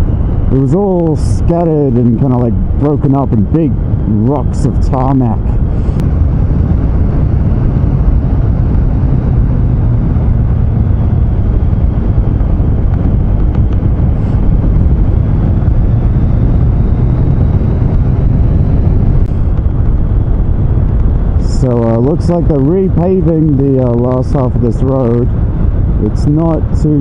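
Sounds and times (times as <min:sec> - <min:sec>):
motorcycle engine running: 0:00.0 - 0:26.0
heavy wind rush: 0:00.0 - 0:27.0.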